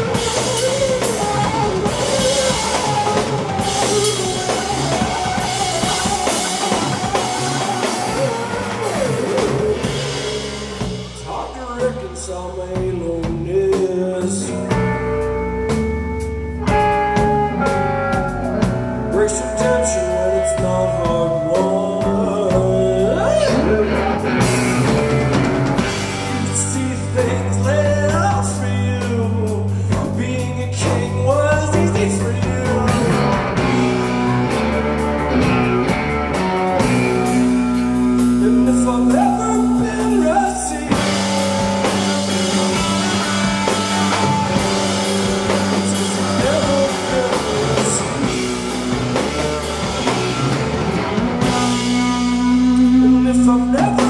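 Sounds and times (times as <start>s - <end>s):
person singing: 0.0s - 15.4s, 16.7s - 54.0s
live rock band playing: 0.0s - 54.0s.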